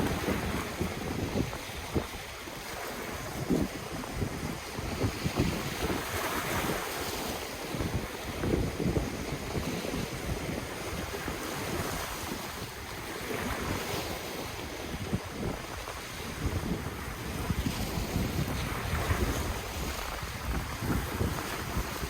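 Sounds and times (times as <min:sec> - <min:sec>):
ocean surf washing ashore: 0:00.0 - 0:22.0
wind gusting on microphone: 0:00.0 - 0:22.0.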